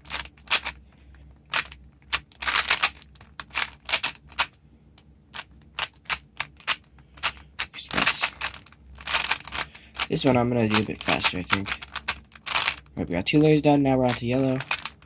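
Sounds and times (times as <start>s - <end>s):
puzzle cube clicking: 0.0s - 0.8s, 1.4s - 4.6s, 5.3s - 15.0s.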